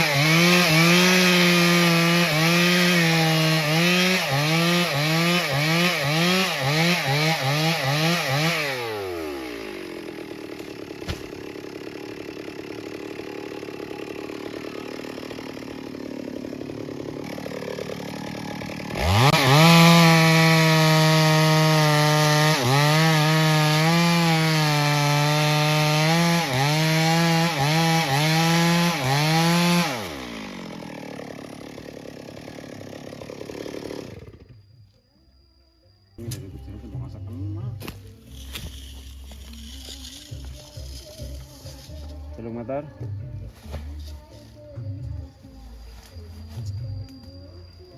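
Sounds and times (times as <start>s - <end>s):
chainsaw cutting wood: 0.0s - 34.6s, 37.8s - 42.1s.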